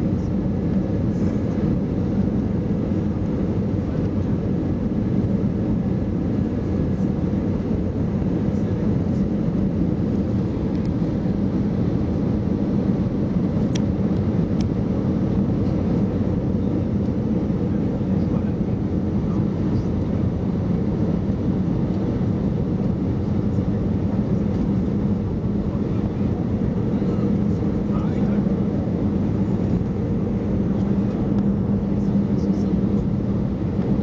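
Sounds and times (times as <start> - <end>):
airliner engines rumbling: 0.0 - 34.0.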